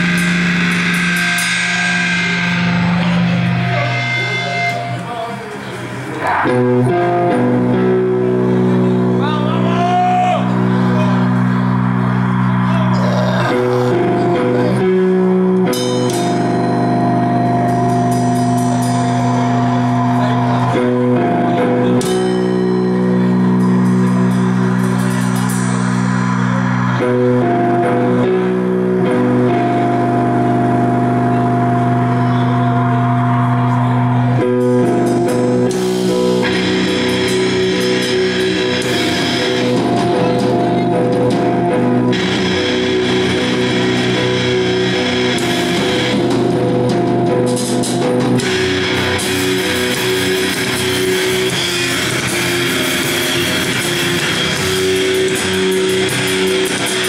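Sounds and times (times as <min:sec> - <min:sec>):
electric guitars and bass chords: 0:00.0 - 0:57.0.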